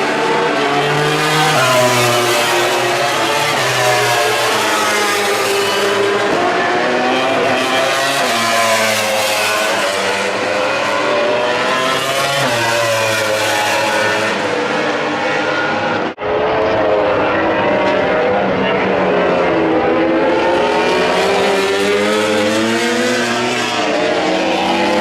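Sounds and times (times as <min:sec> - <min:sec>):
racing motorcycle engines: 0:00.0 - 0:25.0.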